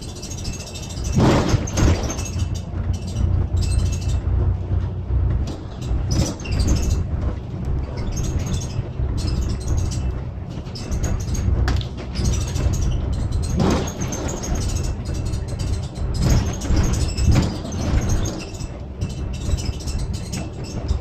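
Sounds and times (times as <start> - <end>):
bus engine and road rumble: 0.0 - 21.0
bursts of clatter: 0.2 - 21.0.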